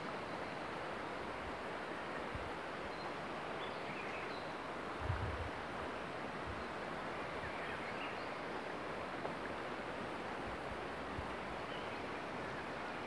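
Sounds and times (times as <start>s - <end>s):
river water over rapids: 0.0s - 13.0s.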